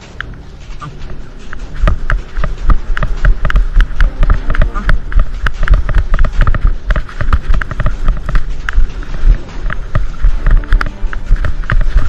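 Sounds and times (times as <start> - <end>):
equipment jostling: 0.0 - 12.0
low rumble: 0.0 - 12.0
running footsteps: 0.0 - 12.0.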